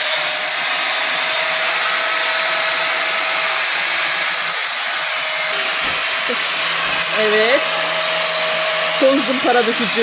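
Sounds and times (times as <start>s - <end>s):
angle grinder grinding bark: 0.0s - 10.0s
motor whine: 0.0s - 10.0s.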